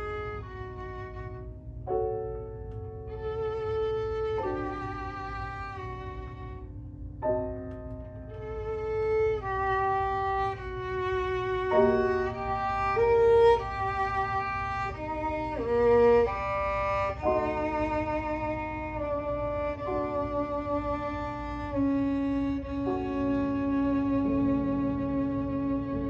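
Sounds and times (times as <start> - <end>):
violin melody with vibrato: 0.0 - 26.0.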